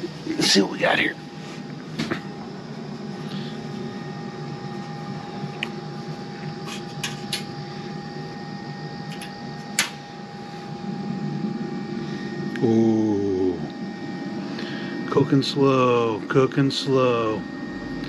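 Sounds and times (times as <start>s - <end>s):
grill fan humming with whine: 0.0s - 18.0s.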